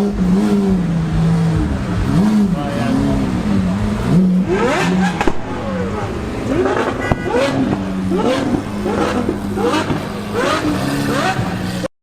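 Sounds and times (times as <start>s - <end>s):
sports car engine running: 0.0s - 11.9s
voices: 1.1s - 11.8s.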